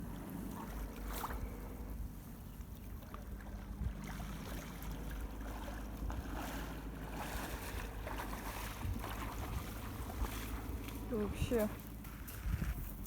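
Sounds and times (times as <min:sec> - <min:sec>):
faint sea wash: 0:00.0 - 0:13.0
wind rumble on microphone: 0:00.0 - 0:13.0.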